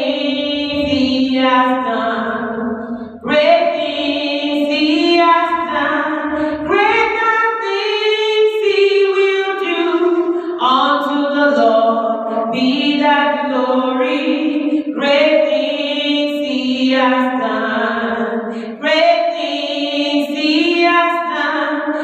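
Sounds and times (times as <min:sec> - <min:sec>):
woman singing a hymn: 0:00.0 - 0:22.0.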